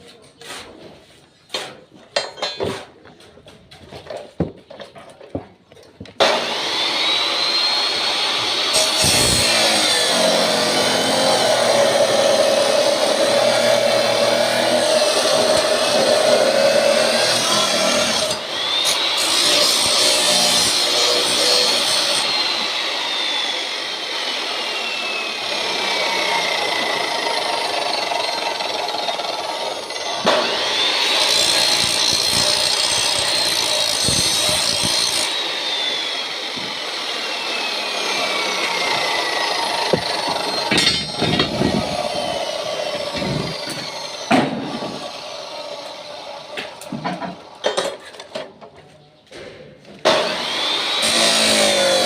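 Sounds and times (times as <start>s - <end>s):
angle grinder cutting metal: 6.2s - 47.0s, 50.0s - 52.0s.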